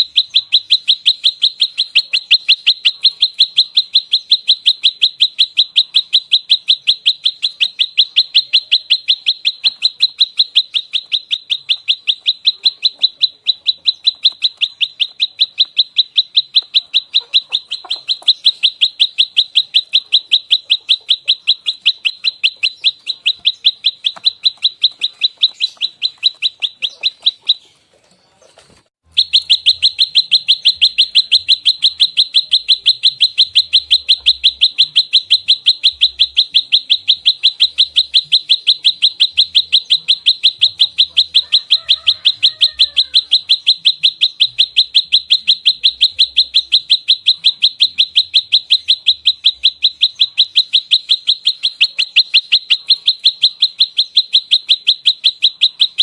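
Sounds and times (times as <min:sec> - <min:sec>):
bird sharp high call: 0:00.0 - 0:27.8, 0:29.0 - 0:56.0.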